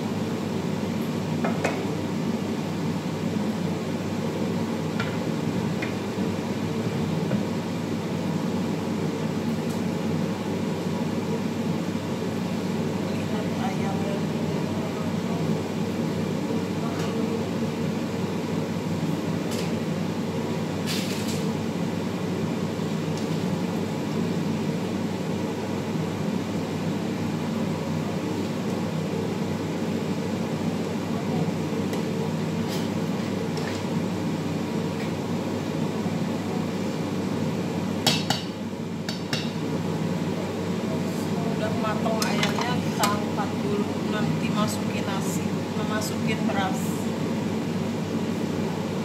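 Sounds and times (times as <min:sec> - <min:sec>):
low kitchen hum: 0:00.0 - 0:49.0.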